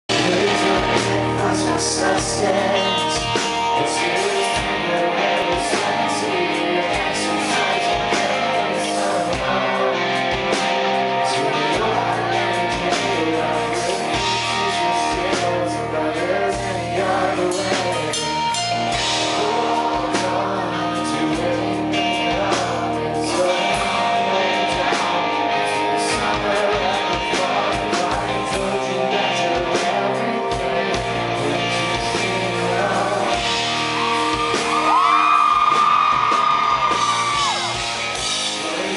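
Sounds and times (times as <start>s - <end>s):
man singing into a microphone: 0.1s - 36.1s, 37.0s - 38.9s
live rock band: 0.1s - 38.9s.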